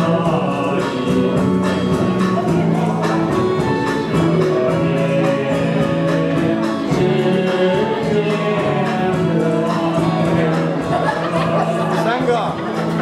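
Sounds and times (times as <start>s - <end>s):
karaoke backing track with beat: 0.0s - 13.0s
person singing: 0.0s - 13.0s.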